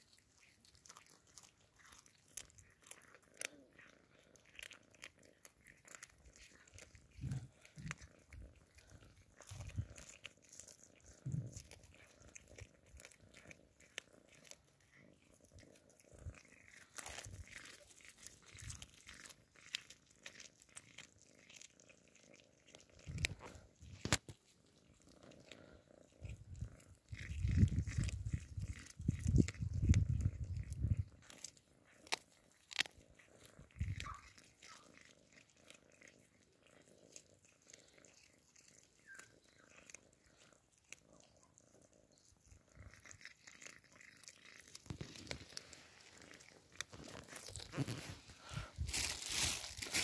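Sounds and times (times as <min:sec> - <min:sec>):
cats crunching raw fish: 0:00.0 - 0:50.0.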